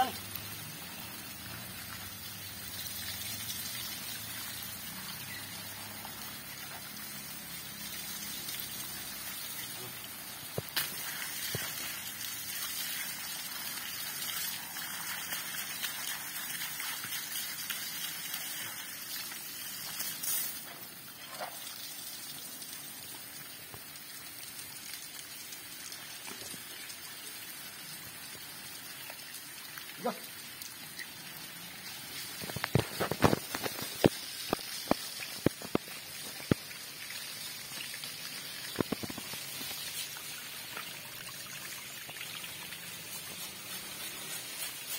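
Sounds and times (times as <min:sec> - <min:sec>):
hose water spraying: 0:00.0 - 0:44.9.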